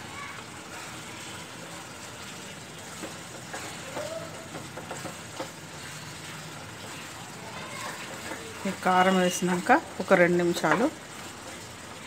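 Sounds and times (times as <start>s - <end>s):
wooden spatula scraping pan: 0.7s - 12.0s.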